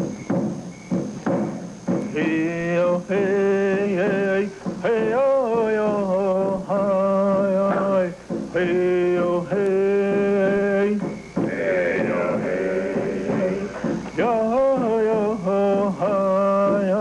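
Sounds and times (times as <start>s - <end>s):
man chanting: 2.1s - 17.0s.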